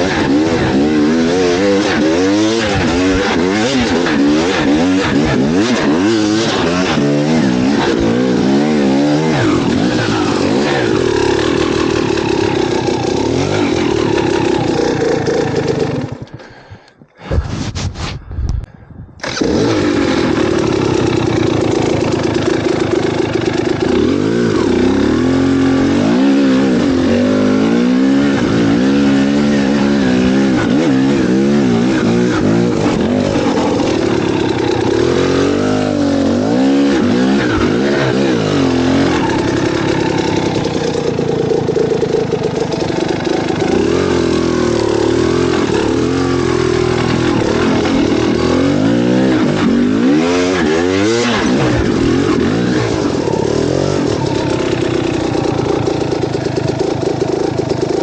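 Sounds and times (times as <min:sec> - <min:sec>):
vehicle engine starting and revving: 0:00.0 - 0:16.6, 0:19.2 - 0:58.0.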